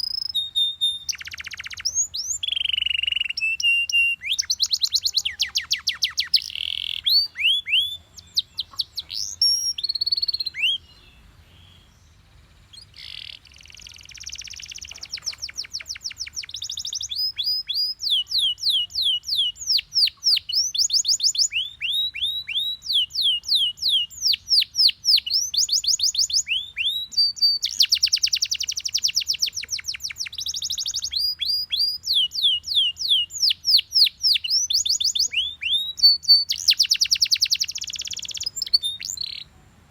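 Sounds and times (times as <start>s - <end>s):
canary singing: 0.0s - 39.5s.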